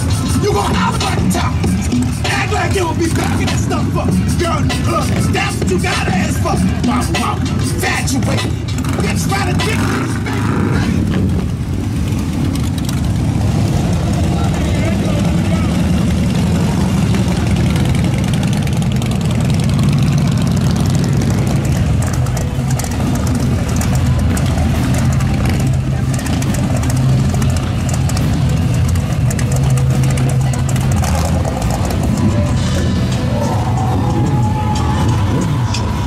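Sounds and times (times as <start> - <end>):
bass-heavy music: 0.0 - 36.0
motorcycle engines rumbling: 0.0 - 36.0.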